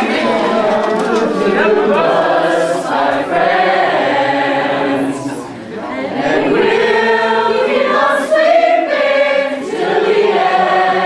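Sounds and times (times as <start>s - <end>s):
group singing long notes: 0.0s - 11.0s.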